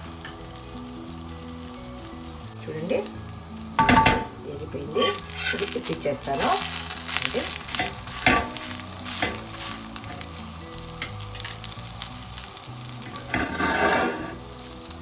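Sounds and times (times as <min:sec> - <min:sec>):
dosa sizzling on a hot griddle: 0:00.0 - 0:15.0.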